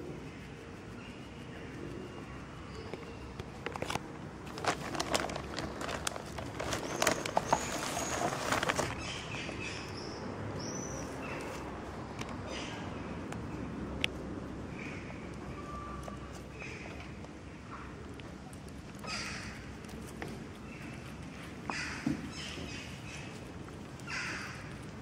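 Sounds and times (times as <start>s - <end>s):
rustling in grass and leaves: 0.0s - 25.0s.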